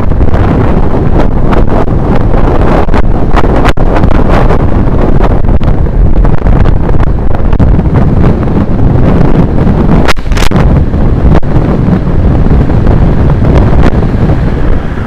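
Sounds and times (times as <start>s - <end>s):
wind buffeting on microphone: 0.0s - 15.0s.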